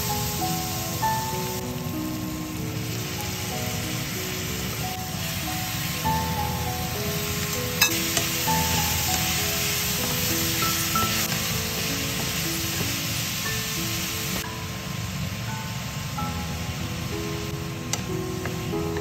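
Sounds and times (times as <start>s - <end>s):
background music: 0.0s - 19.0s
food sizzling in a pan: 0.0s - 19.0s.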